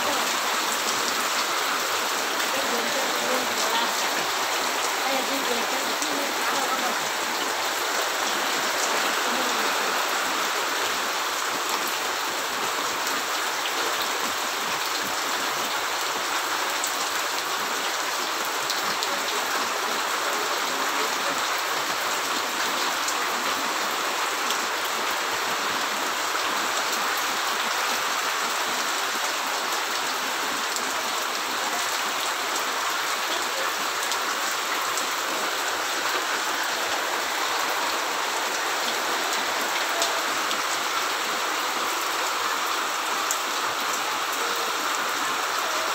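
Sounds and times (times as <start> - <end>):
heavy rain splashing into water: 0.0 - 45.9.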